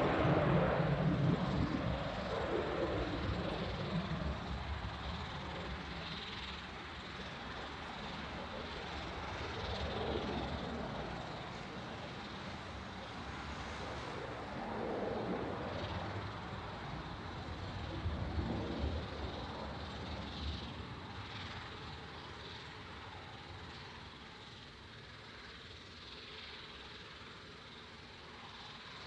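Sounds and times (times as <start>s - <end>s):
jet engines rushing rumble: 0.0s - 29.0s.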